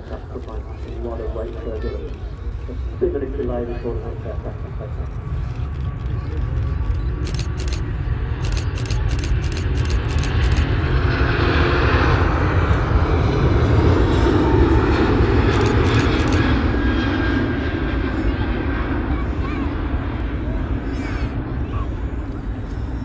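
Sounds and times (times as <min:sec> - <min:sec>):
jet engine rumble: 0:00.0 - 0:23.0.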